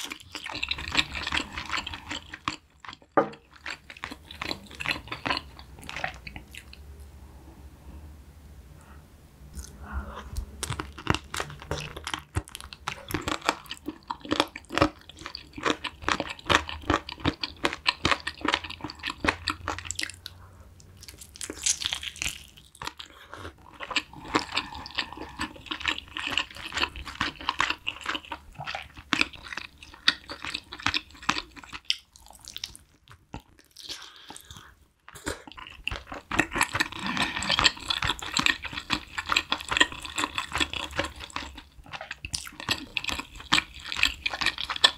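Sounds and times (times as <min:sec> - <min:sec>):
close chewing and mouth smacks: 0:00.0 - 0:06.8, 0:09.5 - 0:44.9.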